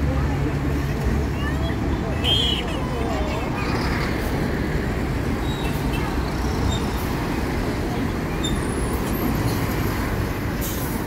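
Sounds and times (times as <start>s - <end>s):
bus engine running: 0.0s - 11.0s
street traffic: 0.0s - 11.0s.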